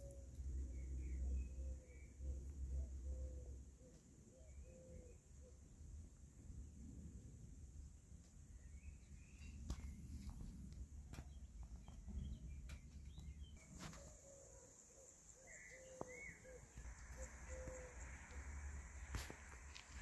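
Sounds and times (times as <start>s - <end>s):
distant birds chirping: 0.0s - 5.6s, 8.4s - 20.0s.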